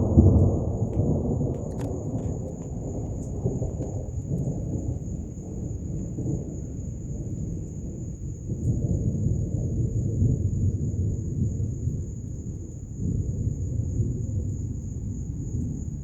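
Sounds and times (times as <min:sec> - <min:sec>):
rolling thunder rumbling: 0:00.0 - 0:16.0.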